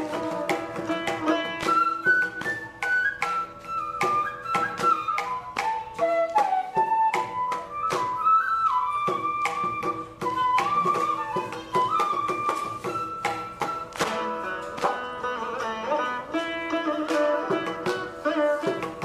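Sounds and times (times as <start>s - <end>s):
bamboo flute melody: 0.0s - 19.0s
mridangam drum strokes: 0.0s - 19.0s
plucked veena: 0.0s - 19.0s.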